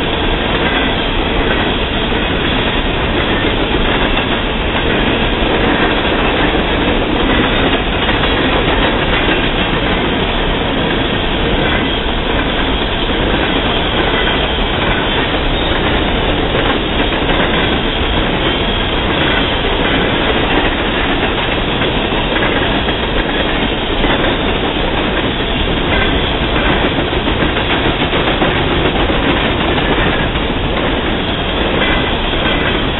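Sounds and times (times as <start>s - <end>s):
wheels clicking over rail joints: 0.0s - 32.9s.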